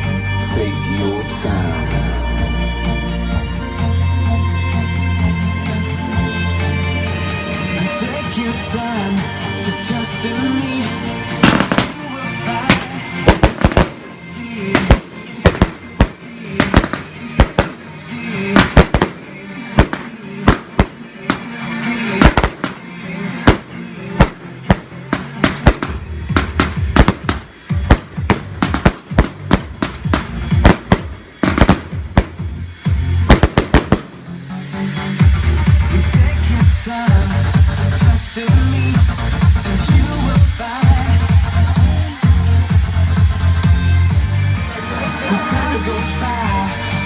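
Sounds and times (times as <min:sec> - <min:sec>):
music playing: 0:00.0 - 0:47.0
fireworks bangs and crackles: 0:06.7 - 0:47.0.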